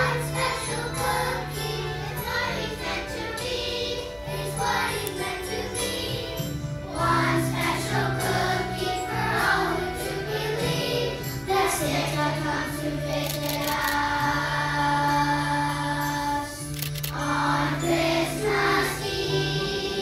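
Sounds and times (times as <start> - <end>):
children's choir singing: 0.0 - 20.0
instrumental accompaniment: 0.0 - 20.0.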